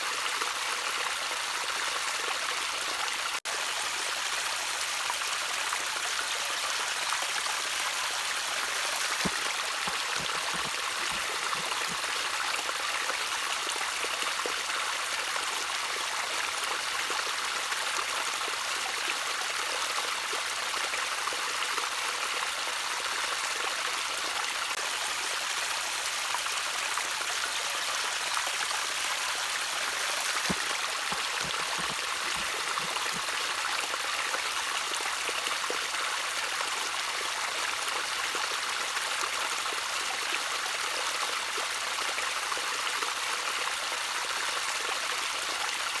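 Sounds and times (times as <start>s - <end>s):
stream trickling: 0.0s - 46.0s.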